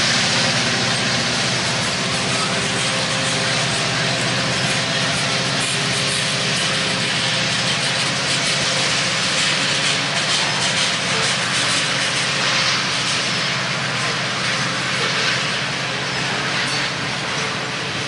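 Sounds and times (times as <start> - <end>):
diesel locomotive engine drone: 0.0 - 18.0
wheels rumbling on rails: 0.0 - 18.0.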